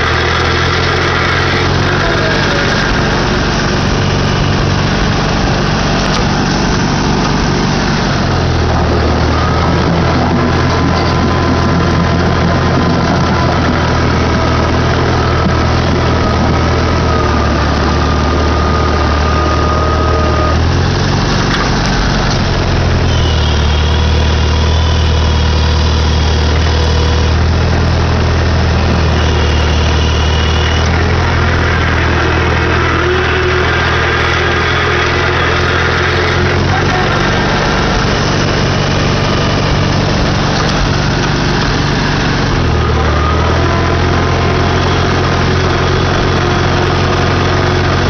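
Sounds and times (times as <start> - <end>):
thin high whine: 0.0 - 48.0
tractor engine running: 0.0 - 48.0.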